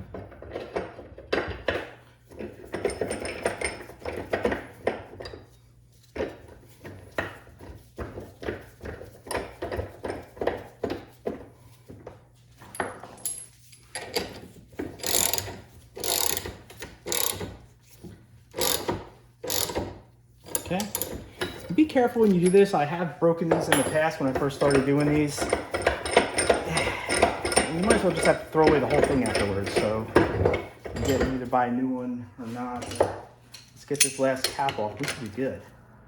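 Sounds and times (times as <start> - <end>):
hand tools clicking and knocking: 0.0 - 31.8, 32.4 - 35.6.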